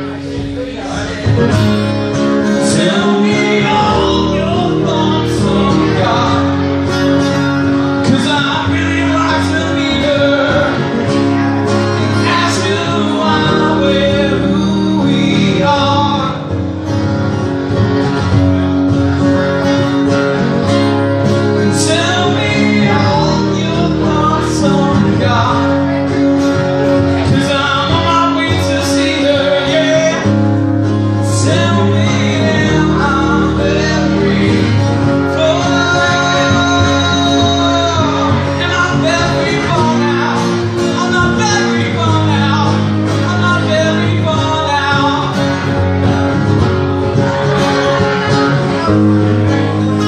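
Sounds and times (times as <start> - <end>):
man singing lead vocal: 0.0 - 17.0, 20.6 - 50.0
acoustic guitars strumming: 0.0 - 50.0.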